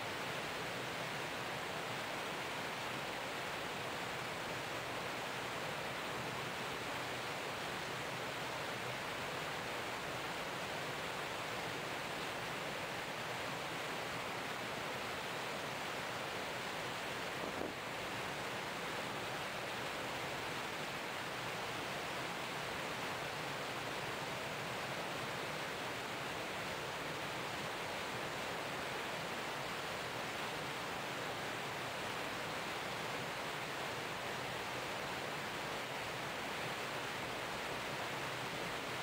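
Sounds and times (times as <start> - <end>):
wind: 0.0 - 39.0.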